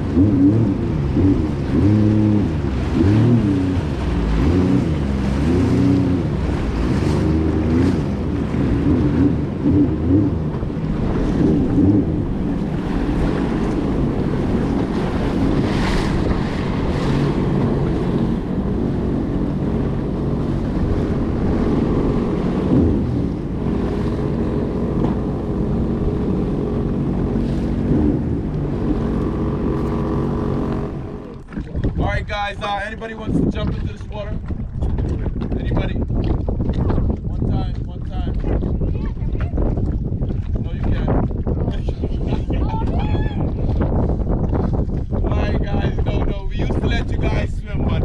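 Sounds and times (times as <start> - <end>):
water splashing: 0.0 - 45.4
jet ski engines running: 0.0 - 48.0
wind buffeting microphone: 0.0 - 48.0.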